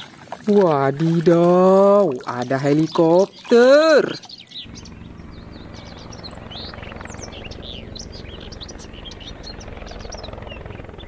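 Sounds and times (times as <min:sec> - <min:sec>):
birds chirping: 0:00.0 - 0:11.0
helicopter hovering: 0:00.8 - 0:11.0.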